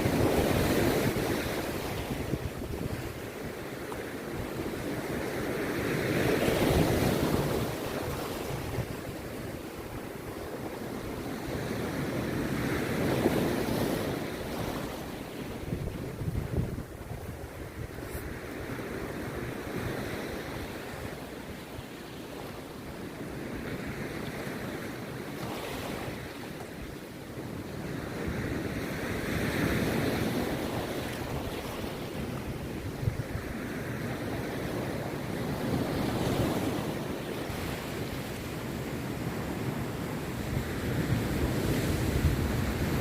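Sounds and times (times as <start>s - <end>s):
sea waves breaking on beach: 0.0s - 43.0s.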